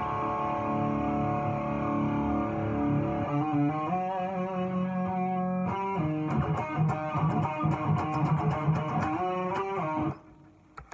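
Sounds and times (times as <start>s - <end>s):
electric guitar playing: 0.0s - 10.7s.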